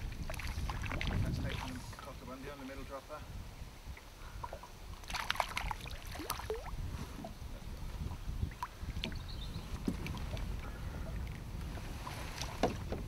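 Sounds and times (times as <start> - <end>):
water lapping against boat: 0.0 - 2.3, 3.8 - 13.0.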